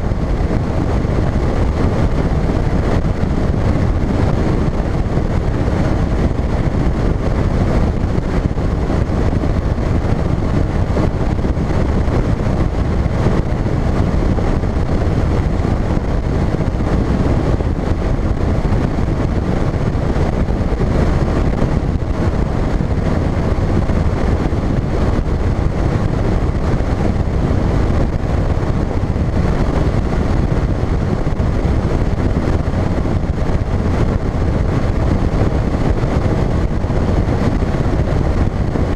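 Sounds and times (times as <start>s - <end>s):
outboard motor rushing: 0.0s - 38.9s
wind buffeting microphone: 0.0s - 38.9s.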